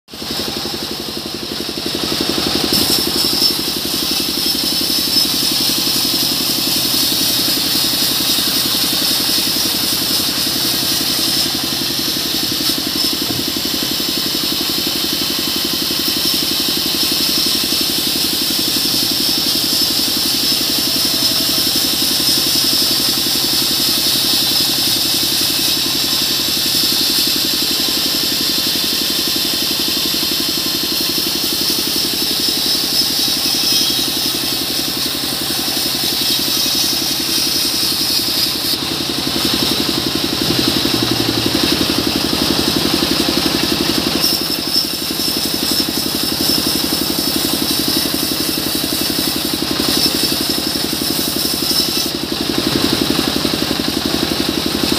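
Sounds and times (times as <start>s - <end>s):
band saw running with high whine: 0.0s - 54.9s.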